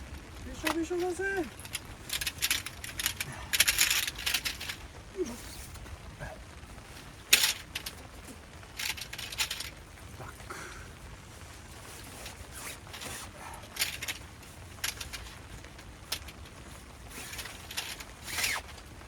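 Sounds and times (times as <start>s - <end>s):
camping gear rustling and clinking: 0.0s - 19.0s.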